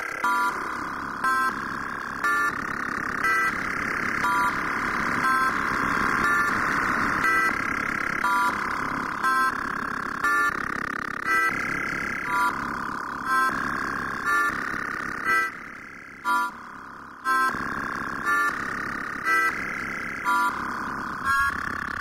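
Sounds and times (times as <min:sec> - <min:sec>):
sustained buzzy synth tone: 0:00.0 - 0:22.0.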